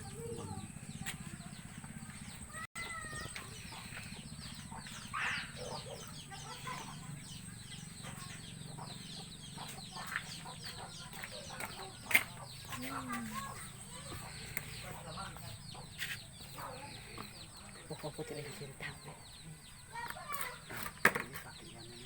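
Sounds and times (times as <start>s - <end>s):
birds chirping: 0.0s - 22.0s
chickens clucking: 0.0s - 22.0s.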